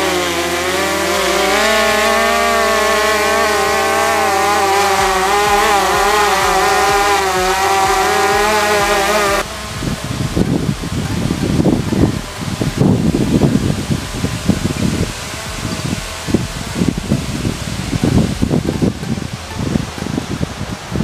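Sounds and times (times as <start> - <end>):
drone motors buzzing whine: 0.0 - 21.0.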